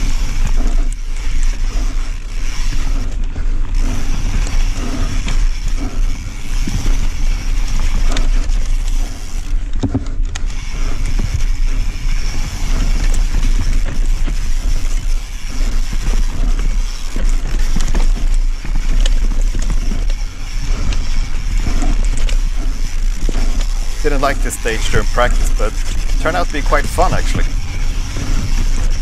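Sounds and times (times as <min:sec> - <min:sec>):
bike tyre noise: 0:00.0 - 0:29.0
wind rumble on microphone: 0:00.0 - 0:29.0.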